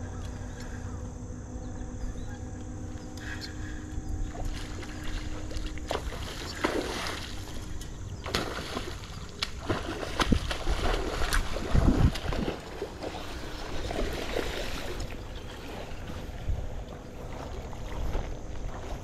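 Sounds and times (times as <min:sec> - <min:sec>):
wind buffeting microphone: 0:01.1 - 0:19.0.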